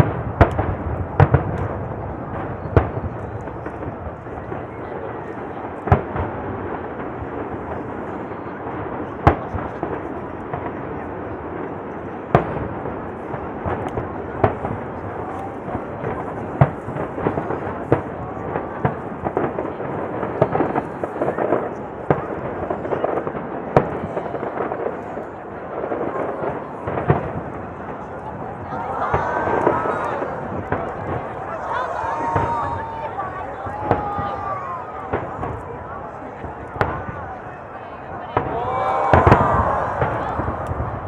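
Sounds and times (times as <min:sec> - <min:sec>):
crowd chatter: 0:00.0 - 0:41.0
fireworks booming: 0:00.0 - 0:41.0.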